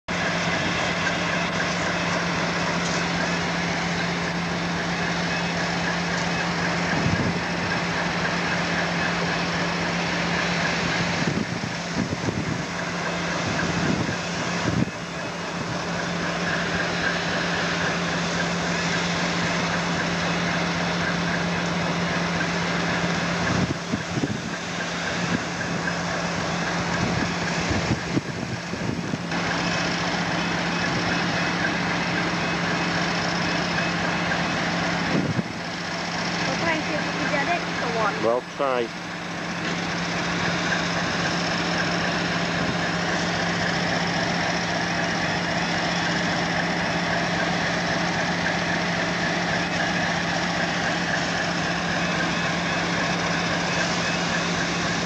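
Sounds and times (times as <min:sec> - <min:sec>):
diesel locomotive engine hum: 0:00.0 - 0:55.0.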